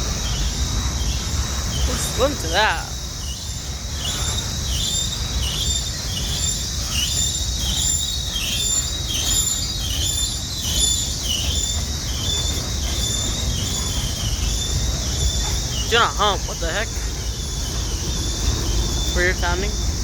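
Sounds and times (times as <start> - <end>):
train cars rumbling: 0.0 - 20.0
steel wheel squeal: 0.3 - 20.0.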